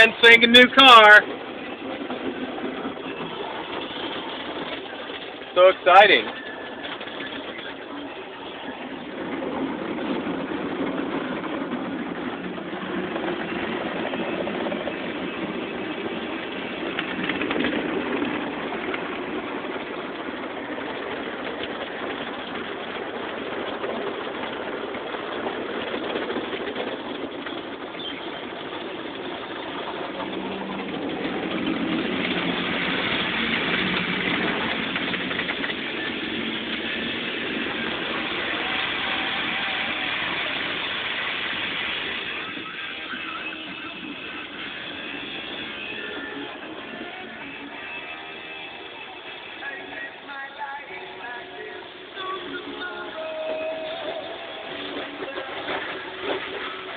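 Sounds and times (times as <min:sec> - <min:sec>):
car wash spray and machinery: 0:00.0 - 0:56.9.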